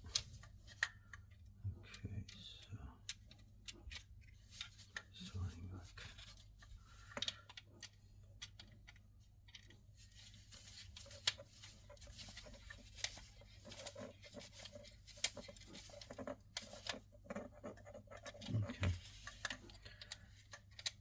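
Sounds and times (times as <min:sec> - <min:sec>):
clicks and scratching of wires: 0:00.0 - 0:21.0.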